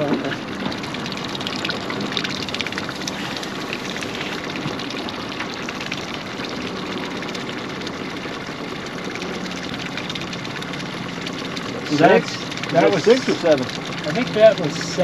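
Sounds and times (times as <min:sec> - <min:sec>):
boat motor hum: 0:00.0 - 0:15.0
ticking water spatters: 0:00.0 - 0:15.0
water washing: 0:00.0 - 0:15.0.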